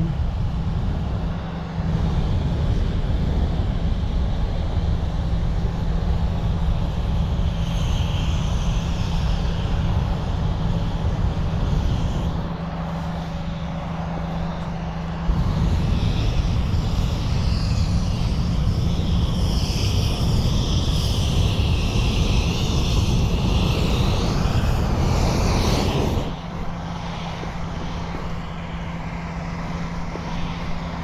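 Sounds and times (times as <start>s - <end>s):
low engine-like drone: 0.0s - 31.0s
propane burner roaring: 0.0s - 31.0s.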